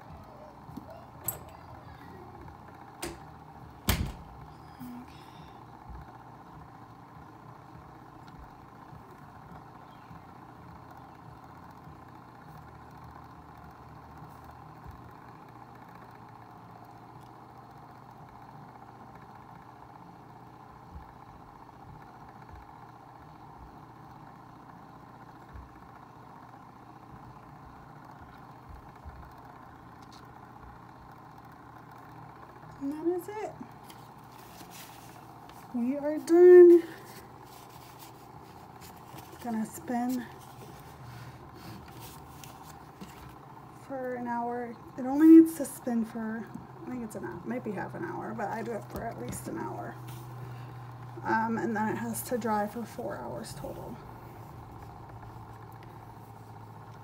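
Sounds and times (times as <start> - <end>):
small electric motor humming: 0.0 - 57.0.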